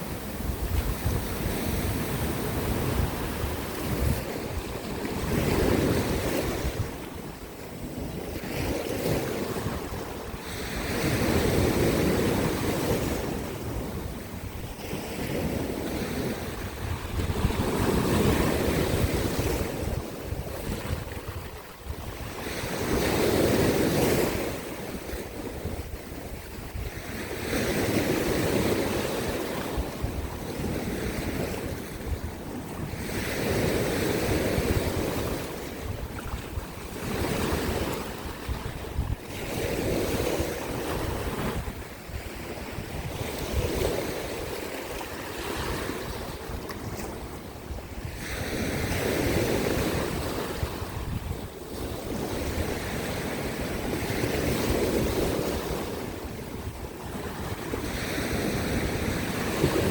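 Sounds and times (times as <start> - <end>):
waves breaking on rocks: 0.0 - 59.9
wind rumbling on microphone: 0.0 - 59.9.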